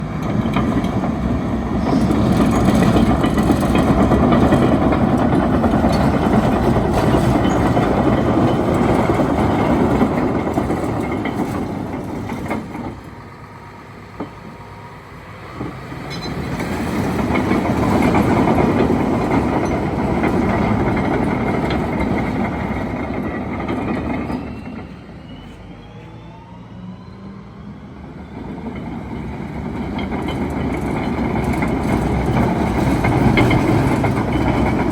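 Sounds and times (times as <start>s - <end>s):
bulldozer engine and tracks: 0.0s - 34.9s.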